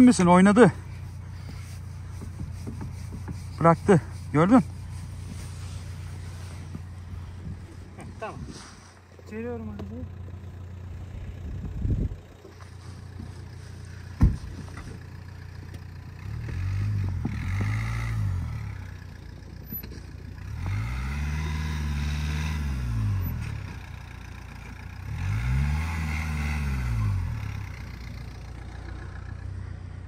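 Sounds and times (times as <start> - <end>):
tyres in snow: 0.0 - 29.6
car engine revving: 0.0 - 29.9.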